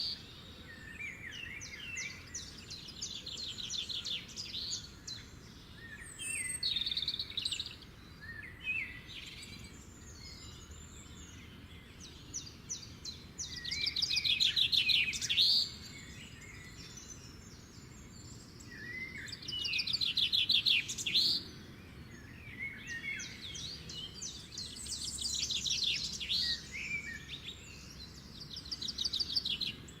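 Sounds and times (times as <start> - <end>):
songbirds singing trills and chirps: 0.0 - 30.0.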